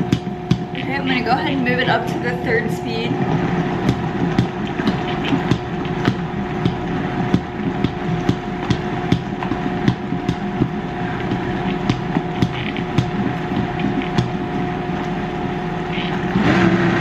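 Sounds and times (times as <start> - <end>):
blender motor whining: 3.0 - 17.0.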